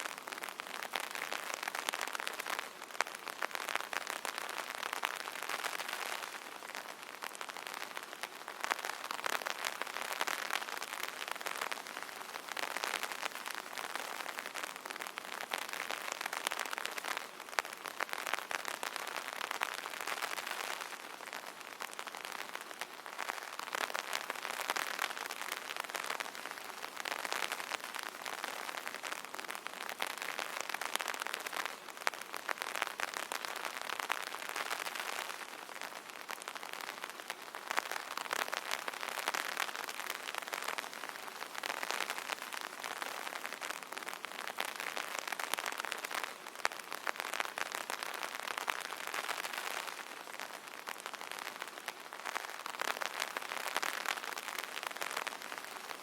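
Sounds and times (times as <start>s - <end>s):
rain pattering on an umbrella: 0.0s - 56.0s.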